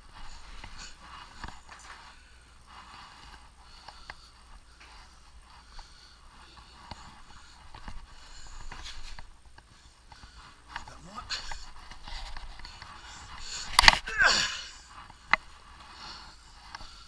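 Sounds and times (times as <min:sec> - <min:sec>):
clothing rustling: 0:00.0 - 0:17.0
steady low hum: 0:00.0 - 0:17.0.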